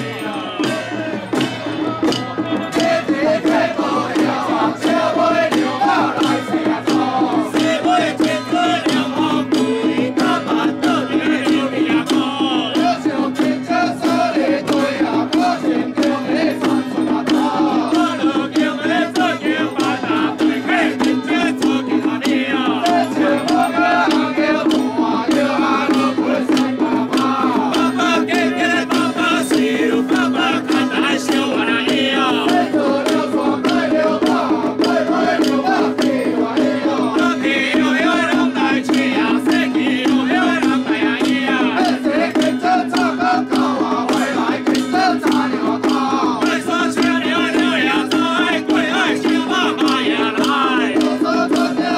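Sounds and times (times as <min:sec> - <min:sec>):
rapid percussion strokes: 0:00.0 - 0:51.9.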